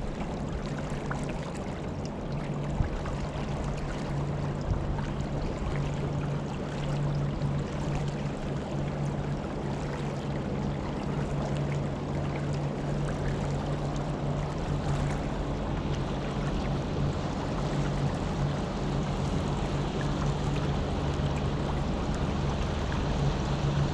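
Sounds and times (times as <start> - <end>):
boat motor running: 0.0 - 23.9
water rushing along hull: 0.0 - 23.9.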